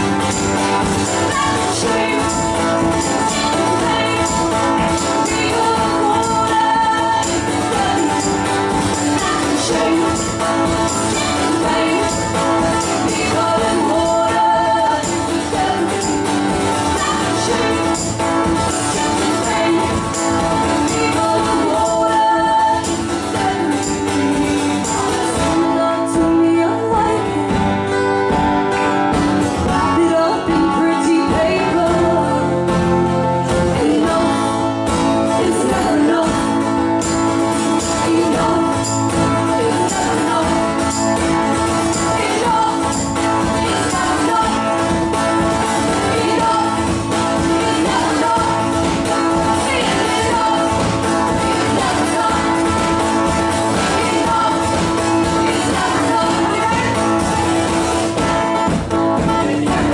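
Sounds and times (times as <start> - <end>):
woman singing: 0.0 - 28.1, 29.6 - 59.9
acoustic guitars strummed: 0.0 - 59.9.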